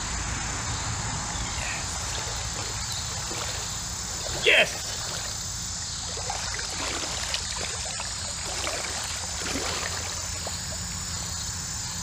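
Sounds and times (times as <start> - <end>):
high-pitched insect drone: 0.0 - 12.0
water trickling: 1.6 - 11.4.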